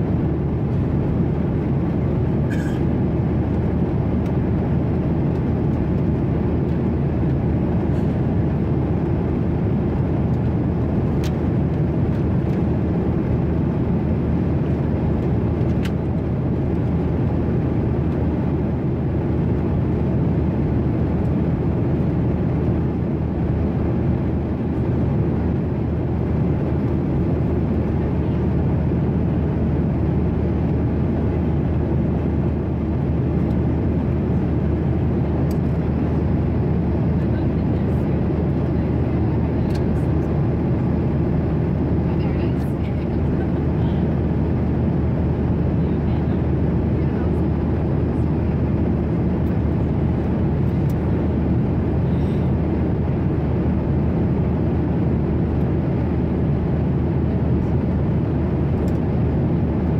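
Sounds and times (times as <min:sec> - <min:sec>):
airliner cabin engine hum: 0:00.0 - 0:59.9.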